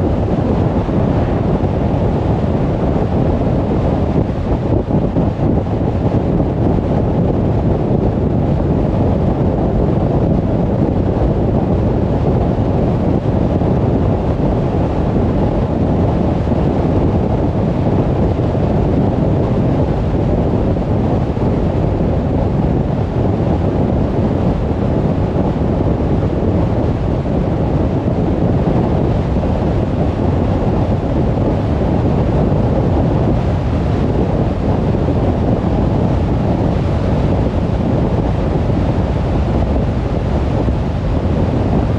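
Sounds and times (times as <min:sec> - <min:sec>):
tyre and wind noise: 0:00.0 - 0:41.9.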